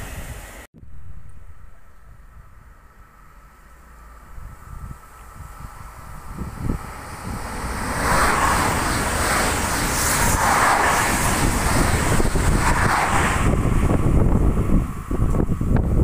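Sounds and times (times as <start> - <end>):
passenger train passing: 1.4 - 16.0.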